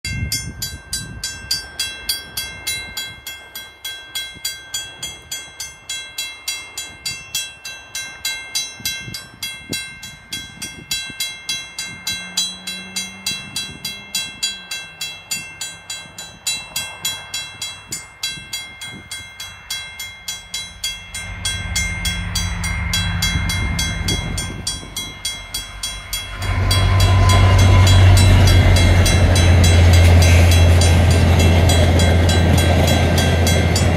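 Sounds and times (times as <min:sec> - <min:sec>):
diesel locomotive engine drone: 0:00.1 - 0:33.9
level crossing bell ringing: 0:00.1 - 0:33.9.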